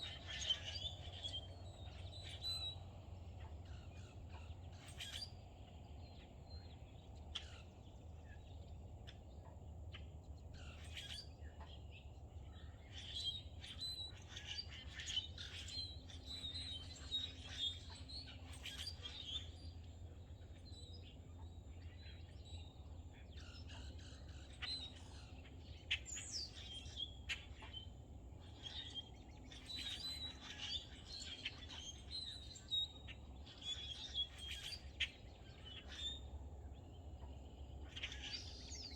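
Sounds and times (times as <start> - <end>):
birds chirping and trilling: 0.0 - 38.9
steady low hum: 0.0 - 38.9.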